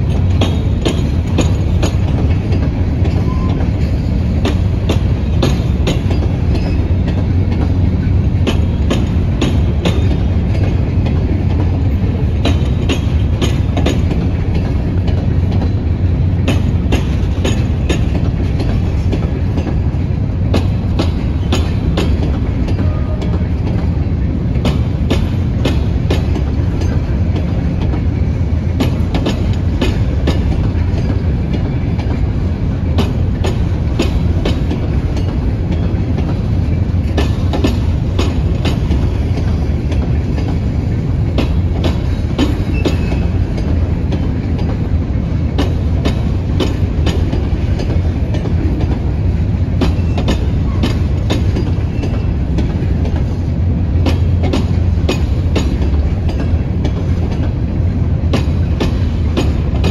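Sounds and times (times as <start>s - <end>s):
train cars clicking and clanking: 0.0s - 59.9s
wheels rumbling on rail: 0.0s - 59.9s.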